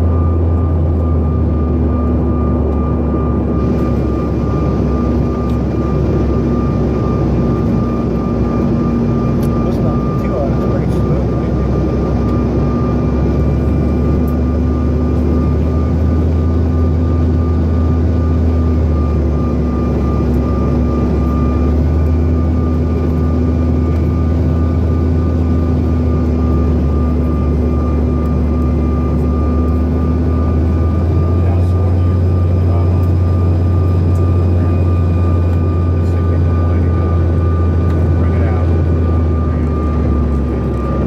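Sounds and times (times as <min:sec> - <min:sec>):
jet engines droning in cabin: 0:00.0 - 0:41.0.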